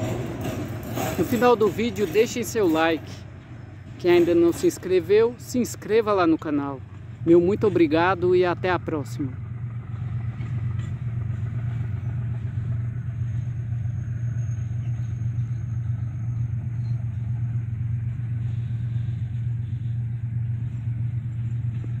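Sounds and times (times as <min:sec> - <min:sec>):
diesel locomotives rumbling: 0:00.0 - 0:22.0
wagons rolling on rails: 0:00.0 - 0:22.0.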